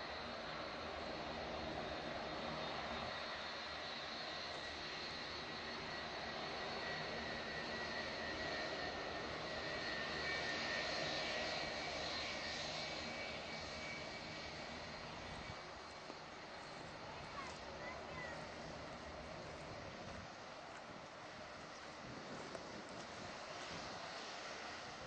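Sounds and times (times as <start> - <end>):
jet engines taxiing: 0.0 - 25.0.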